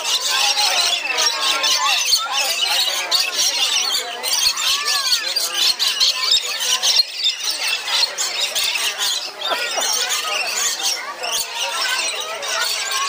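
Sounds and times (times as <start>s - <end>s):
lorikeets screeching and chattering: 0.0s - 13.0s
murmur of crowd voices: 0.0s - 13.0s.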